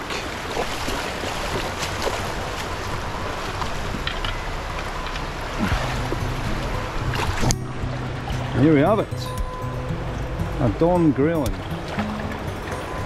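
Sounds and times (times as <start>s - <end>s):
river water rushing over stones: 0.0s - 13.0s.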